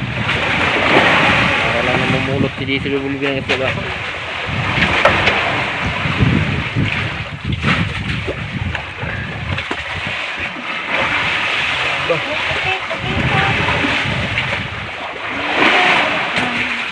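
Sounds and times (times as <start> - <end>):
sea water washing around boat: 0.0 - 16.9
wind on microphone: 0.0 - 16.9.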